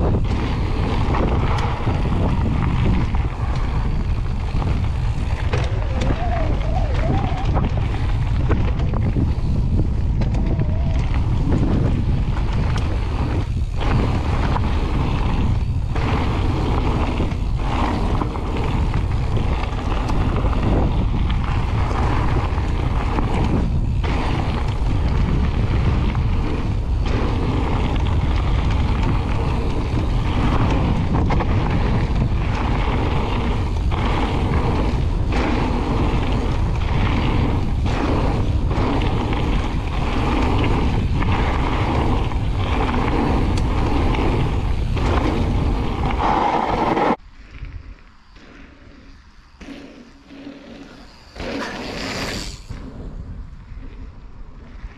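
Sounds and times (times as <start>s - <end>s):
bike tyres rolling on gravel: 0.0s - 54.9s
wind buffeting microphone: 0.0s - 54.9s.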